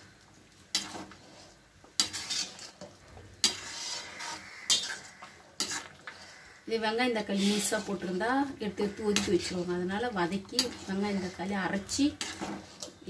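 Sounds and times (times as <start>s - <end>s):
metal ladle scraping a steel pan: 0.7s - 6.5s, 7.2s - 13.0s.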